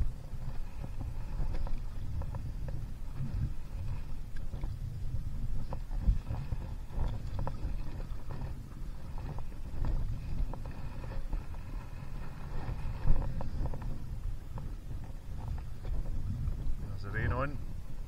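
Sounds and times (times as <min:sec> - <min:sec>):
paddle splashes and knocks: 0:00.0 - 0:16.8
wind rumbling on microphone: 0:00.0 - 0:18.0.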